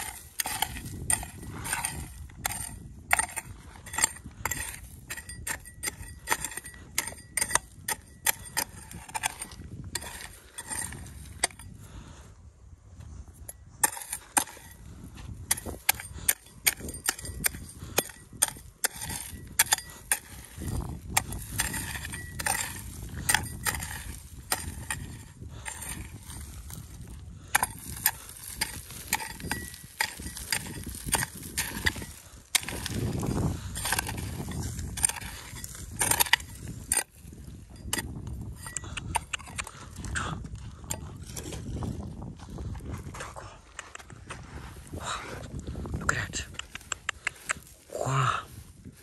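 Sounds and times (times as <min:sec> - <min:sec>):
hoe clinking on stones: 0:00.0 - 0:12.0, 0:13.3 - 0:42.3
hoe chopping stony soil: 0:00.0 - 0:12.2, 0:13.2 - 0:42.8, 0:46.4 - 0:48.4.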